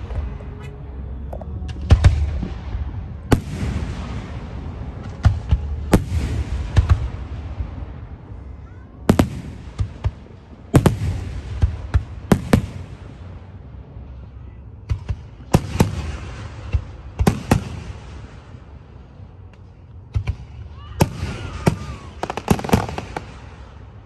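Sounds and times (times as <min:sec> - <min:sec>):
low rumble: 0:00.0 - 0:20.8.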